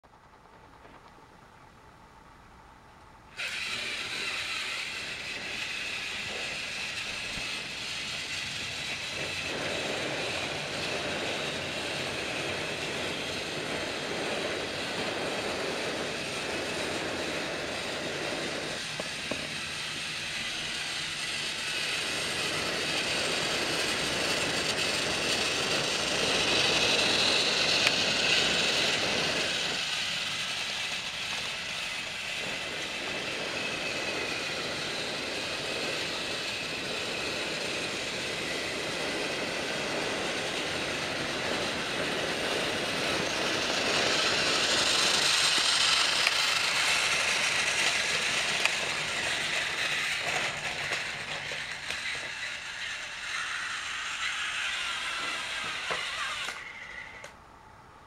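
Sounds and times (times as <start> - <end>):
toy train motor whirring: 3.3 - 57.4.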